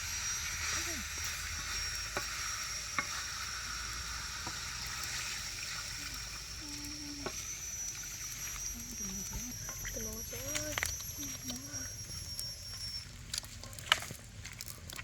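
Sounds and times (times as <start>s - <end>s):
food frying sizzle: 0.0s - 15.0s.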